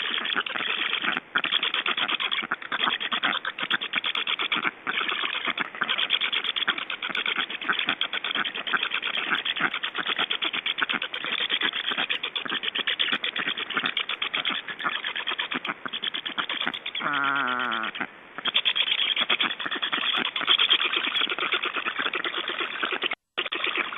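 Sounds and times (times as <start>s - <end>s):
drawn-out bird call: 0.0s - 23.9s
stork chicks begging calls: 0.0s - 23.9s.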